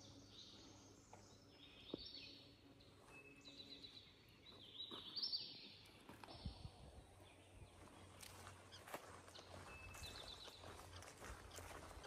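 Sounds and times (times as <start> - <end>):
faint songbirds singing: 0.0 - 12.0.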